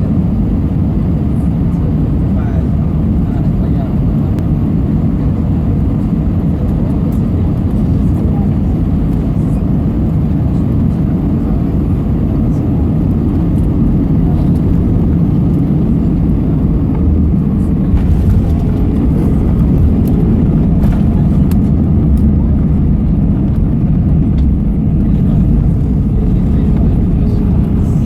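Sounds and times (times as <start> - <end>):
aircraft engines rumbling in cabin: 0.0 - 28.0.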